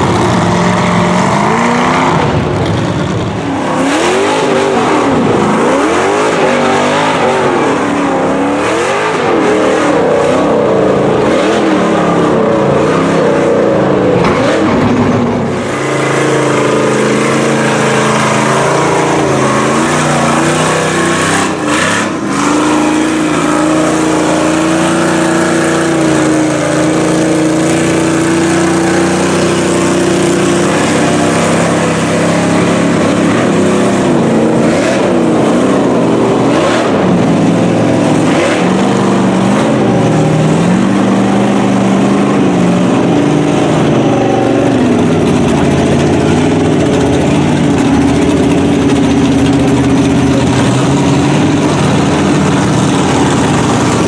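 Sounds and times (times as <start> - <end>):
tires churning muddy water: 0.0 - 54.0
truck engines revving: 0.0 - 54.0.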